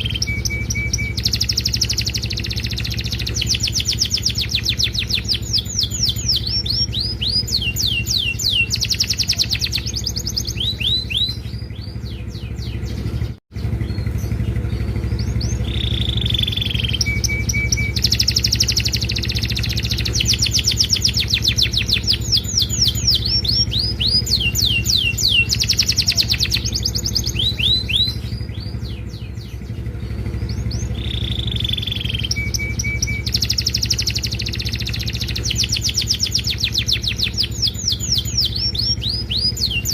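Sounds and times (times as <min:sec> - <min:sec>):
canary singing: 0:00.0 - 0:39.9
steady low hum: 0:00.0 - 0:39.9.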